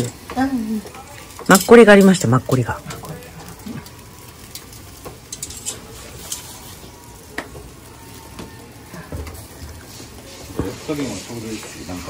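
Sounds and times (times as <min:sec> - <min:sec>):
small crackles and pops: 0:00.0 - 0:11.0
meat sizzling on grill: 0:00.0 - 0:12.0.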